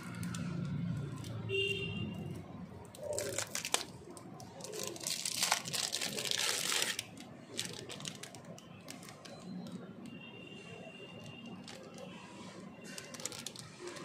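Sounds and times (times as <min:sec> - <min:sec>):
plastic wrapper crinkling: 0:00.0 - 0:01.5, 0:02.1 - 0:10.1, 0:10.8 - 0:14.0.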